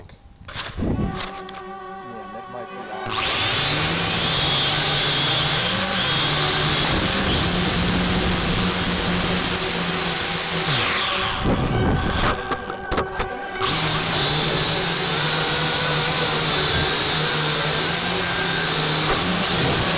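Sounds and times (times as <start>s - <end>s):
drone motors whining: 3.0s - 19.9s.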